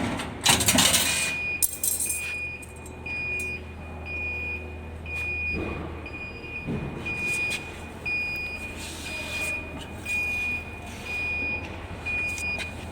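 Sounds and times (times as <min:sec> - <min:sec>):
electronic warning beeps: 0:01.1 - 0:12.9.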